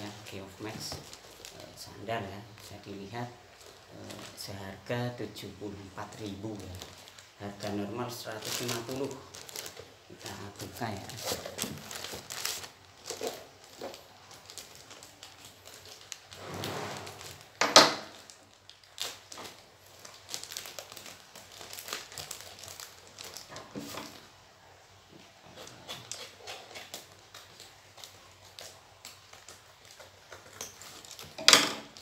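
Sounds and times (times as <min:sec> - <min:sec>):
plastic mailer bag crinkling: 0:00.0 - 0:24.6, 0:25.6 - 0:32.0.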